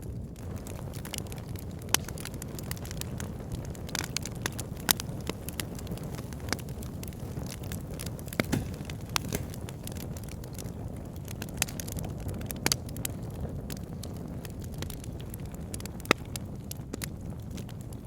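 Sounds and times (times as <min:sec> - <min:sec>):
burning logs crackling and popping: 0:00.0 - 0:18.0
low rumble of flames: 0:00.0 - 0:18.0.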